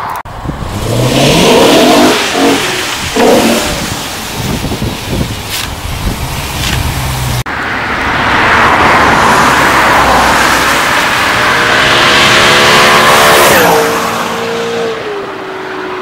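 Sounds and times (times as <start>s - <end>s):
car engine rumble: 0.0s - 16.0s
tyres hissing on wet road: 0.6s - 14.5s.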